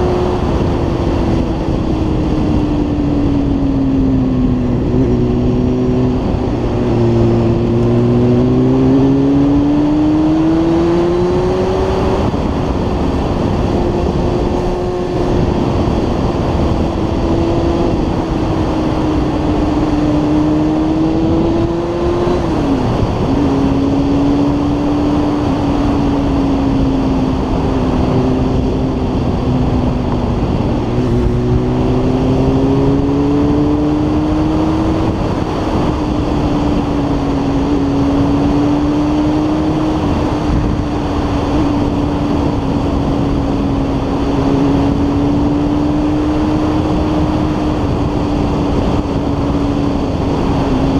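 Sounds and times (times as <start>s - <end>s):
motorcycle engine revving: 0.0s - 50.9s
wind and road noise: 0.0s - 50.9s.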